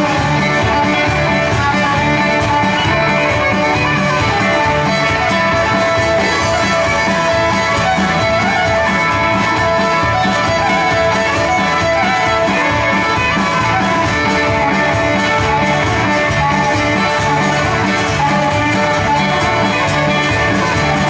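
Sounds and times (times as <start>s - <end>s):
fiddle tune: 0.0s - 21.0s
guitar accompaniment: 0.0s - 21.0s.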